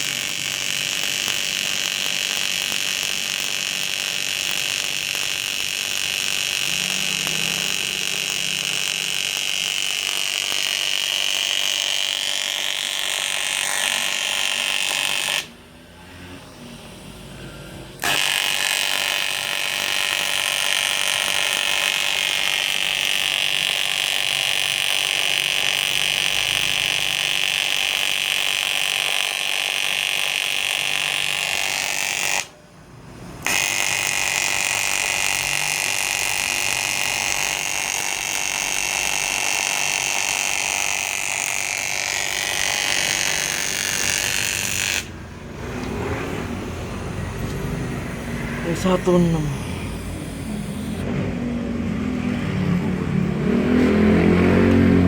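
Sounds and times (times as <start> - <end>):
welding arc buzzing: 0.0 - 15.6, 18.0 - 51.2.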